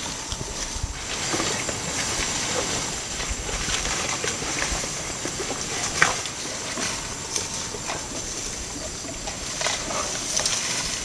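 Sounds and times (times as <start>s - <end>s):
dry leaves crackling and snapping: 0.0s - 11.0s
steady high hiss: 0.0s - 11.0s.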